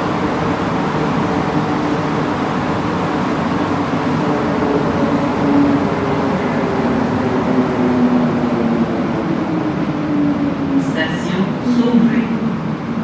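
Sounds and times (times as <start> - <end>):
train running noise in tunnel: 0.0 - 13.0.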